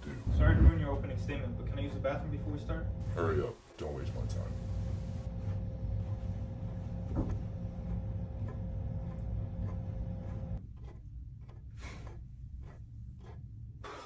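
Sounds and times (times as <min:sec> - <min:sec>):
low hum: 0:00.0 - 0:11.5.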